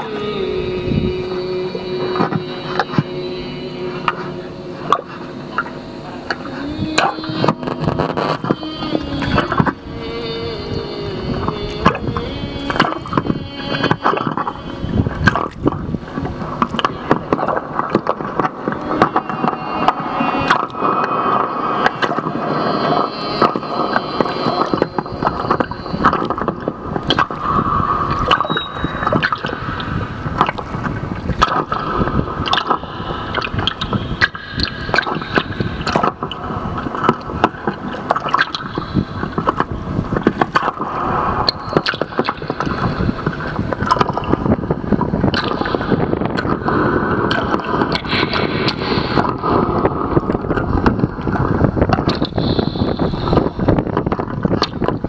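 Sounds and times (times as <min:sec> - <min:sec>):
steady watery rush: 0:00.0 - 0:55.0
water gurgling and dripping: 0:00.0 - 0:55.0
underwater crackling and clicking: 0:01.7 - 0:03.2, 0:03.9 - 0:55.0.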